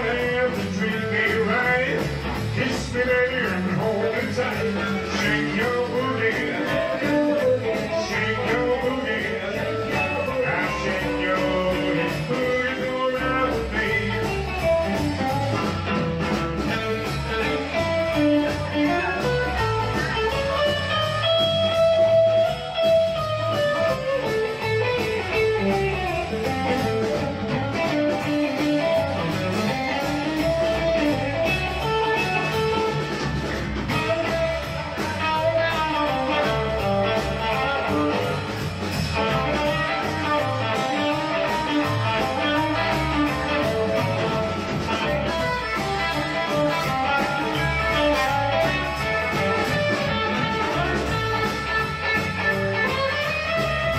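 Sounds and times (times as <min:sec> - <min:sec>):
bass guitar: 0:00.0 - 0:53.9
drum kit steady beat: 0:00.0 - 0:53.9
electric guitar lead lines: 0:00.0 - 0:53.9.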